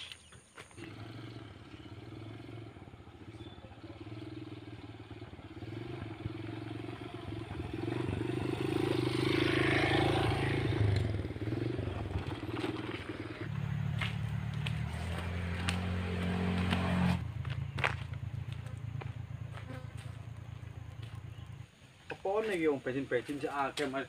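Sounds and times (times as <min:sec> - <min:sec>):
scooter engine: 0:00.5 - 0:21.7
motorbike engine passing: 0:00.6 - 0:21.7.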